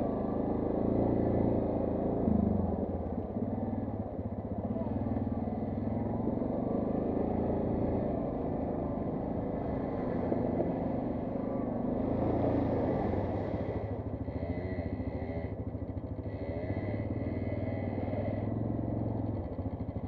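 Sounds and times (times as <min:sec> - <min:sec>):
quad bike engines revving: 0:00.0 - 0:20.0.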